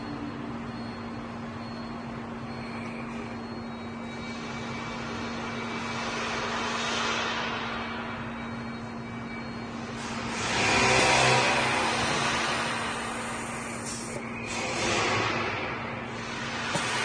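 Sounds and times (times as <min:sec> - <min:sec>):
industrial hum: 0:00.0 - 0:17.0.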